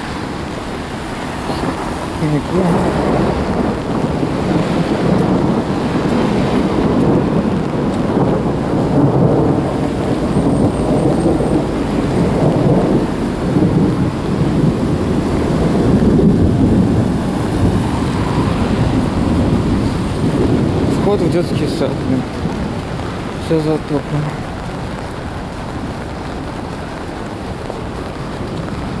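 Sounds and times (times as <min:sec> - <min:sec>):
heavy rain hissing: 0:00.0 - 0:29.0
low thunder rumble: 0:00.0 - 0:29.0.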